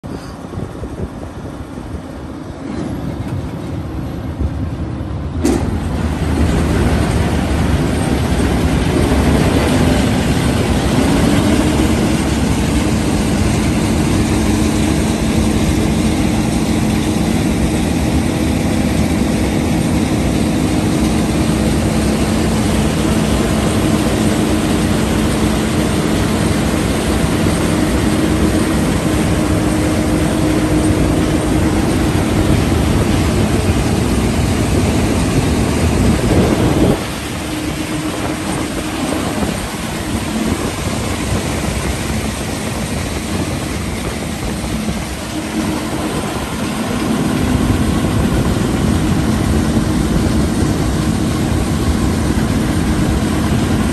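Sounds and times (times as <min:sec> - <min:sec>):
combine harvester hum: 0:00.0 - 0:53.9.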